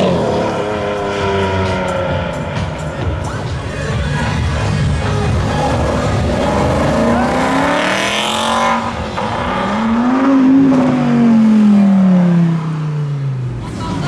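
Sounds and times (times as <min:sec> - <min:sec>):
sports cars accelerating: 0:00.0 - 0:14.0.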